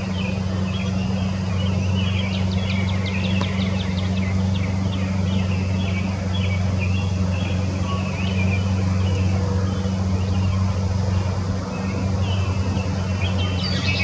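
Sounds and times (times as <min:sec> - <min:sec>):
low motor hum: 0:00.0 - 0:14.0
songbirds chirping: 0:00.0 - 0:14.0.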